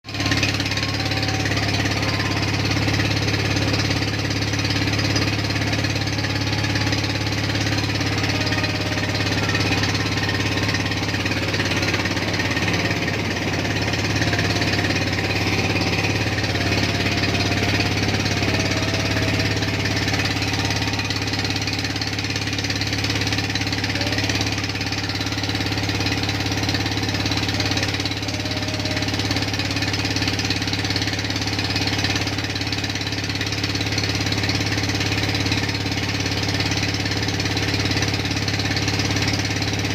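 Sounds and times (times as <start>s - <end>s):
boat engine knocking: 0.0s - 39.9s.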